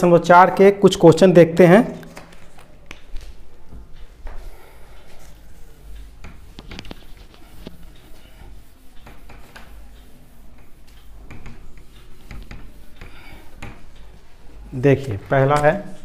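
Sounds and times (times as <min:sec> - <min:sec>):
cloth wiping whiteboard: 0:01.7 - 0:16.0.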